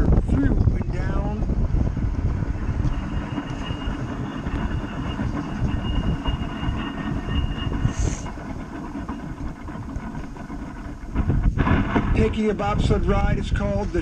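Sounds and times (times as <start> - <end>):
faint thin whine: 0.0 - 14.0
sled wheels rumbling on rail: 0.0 - 14.0.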